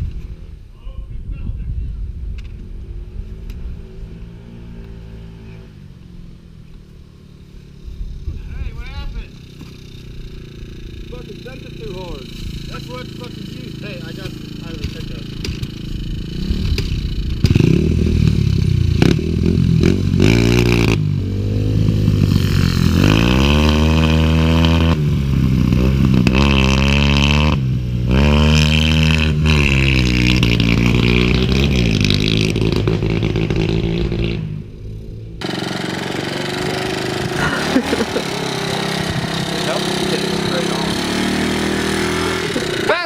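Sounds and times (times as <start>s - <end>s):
pit bike engine revving: 6.9s - 43.0s.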